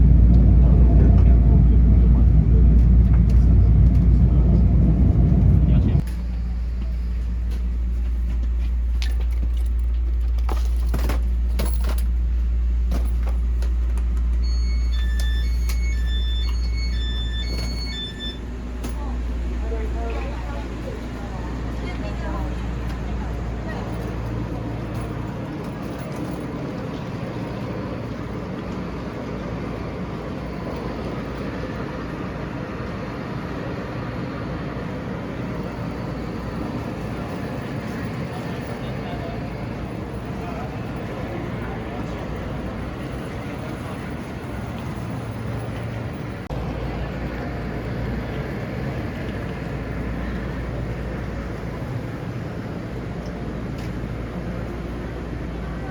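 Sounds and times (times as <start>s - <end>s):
train rumble from inside carriage: 0.0s - 55.9s.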